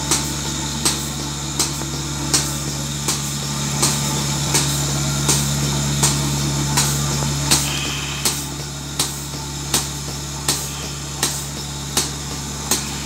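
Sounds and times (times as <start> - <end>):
pulsator clicking: 0.0 - 13.0
vacuum pump motor humming: 0.0 - 13.0.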